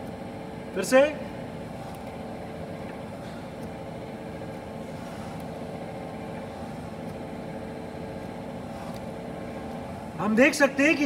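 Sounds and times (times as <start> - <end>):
grinder machine hum: 0.0 - 11.0.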